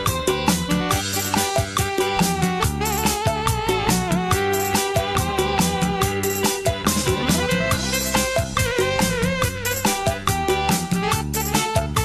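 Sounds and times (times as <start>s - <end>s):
electronic keyboard: 0.0s - 12.0s
live band music: 0.0s - 12.0s
steady drum beat: 0.0s - 12.0s
wavering held lead note: 1.1s - 11.8s.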